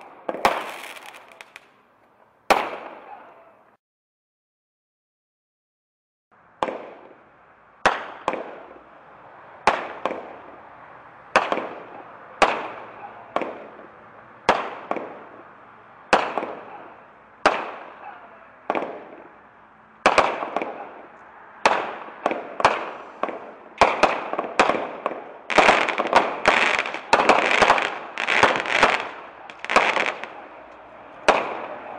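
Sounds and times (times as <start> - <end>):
fireworks bangs: 0.0 - 3.7, 7.8 - 8.9, 9.5 - 31.9.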